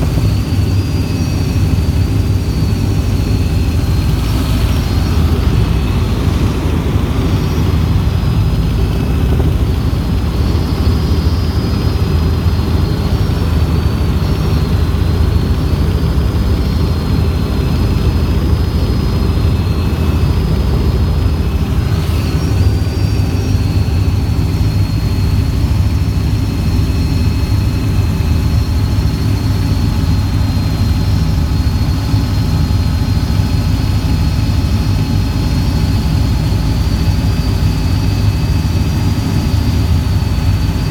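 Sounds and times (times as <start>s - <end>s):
helicopter drone: 0.0s - 40.9s
high whine: 0.0s - 40.9s.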